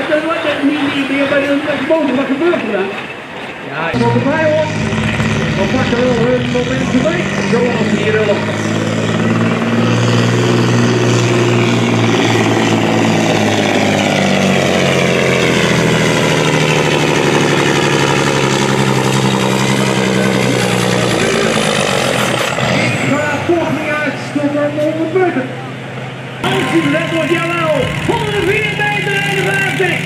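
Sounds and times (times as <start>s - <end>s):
truck diesel engine at full throttle: 0.0s - 3.0s, 3.9s - 30.0s.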